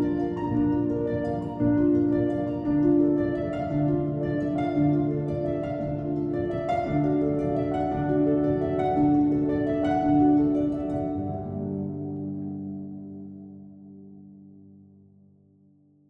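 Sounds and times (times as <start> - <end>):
gentle instrumental music: 0.0 - 16.0.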